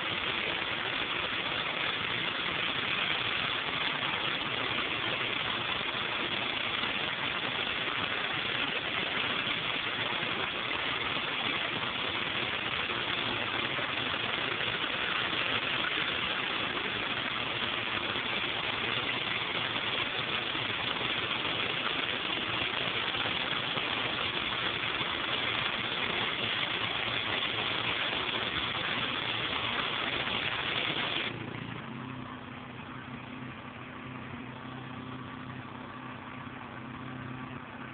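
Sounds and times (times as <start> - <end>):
pressure washer spray hissing: 0.0 - 31.6
pressure washer engine humming: 0.0 - 37.9.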